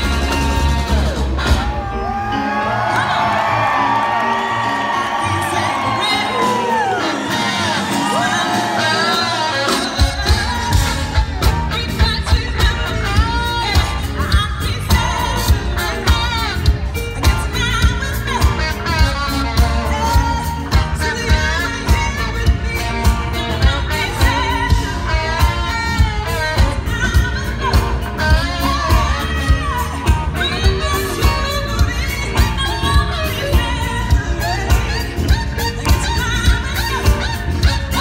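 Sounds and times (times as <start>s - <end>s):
live band playing: 0.0s - 38.0s
woman singing lead: 0.0s - 38.0s.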